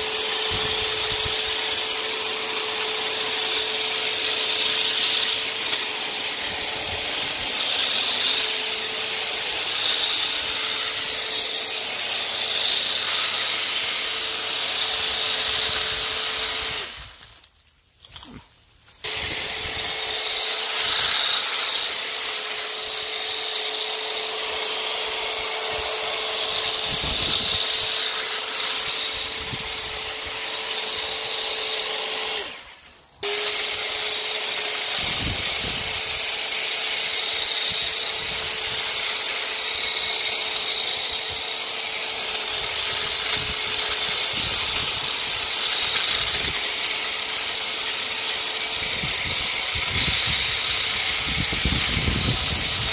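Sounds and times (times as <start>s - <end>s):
hedge trimmer motor hum: 0.0s - 52.9s.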